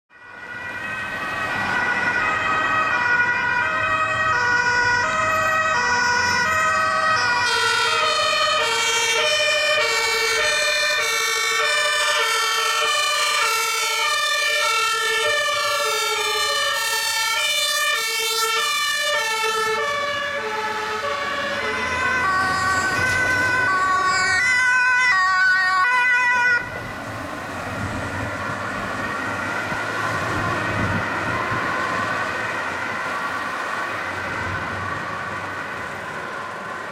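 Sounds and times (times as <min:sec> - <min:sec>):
fire engine two-tone sirens: 0:00.1 - 0:36.9
road and engine noise: 0:00.1 - 0:36.9.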